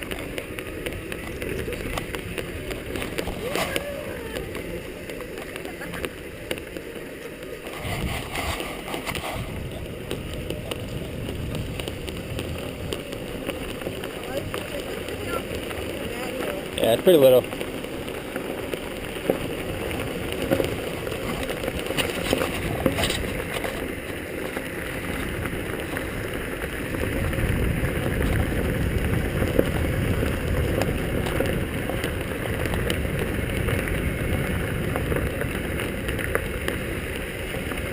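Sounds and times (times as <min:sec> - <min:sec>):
wind rumble on microphone: 0:00.0 - 0:37.9.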